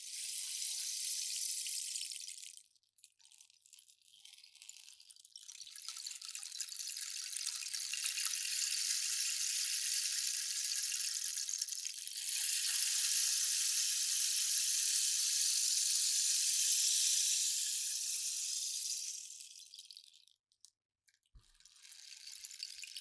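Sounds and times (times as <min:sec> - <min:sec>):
rainstick pebbles trickling: 0:00.1 - 0:23.0.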